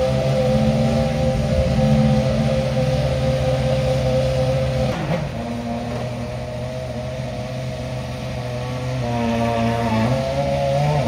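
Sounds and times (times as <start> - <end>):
racing car engine idling: 0.0 - 10.4.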